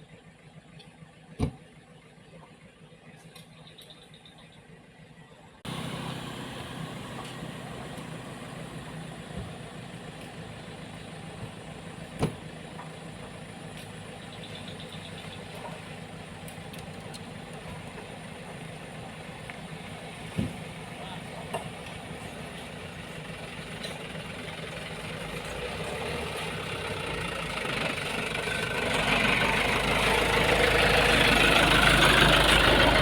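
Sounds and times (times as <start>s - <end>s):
engine idling: 5.6s - 33.0s.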